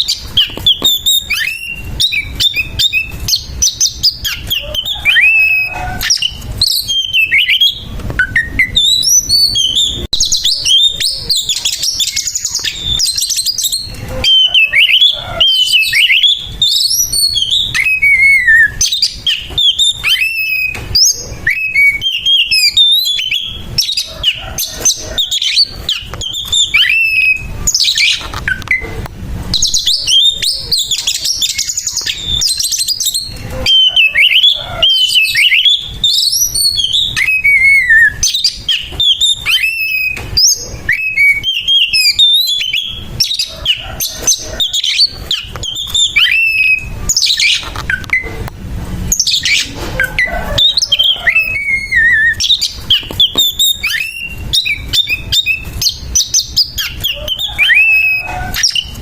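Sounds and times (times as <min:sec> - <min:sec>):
bird singing chirps and trills: 0:00.0 - 0:48.4, 0:49.1 - 0:59.0.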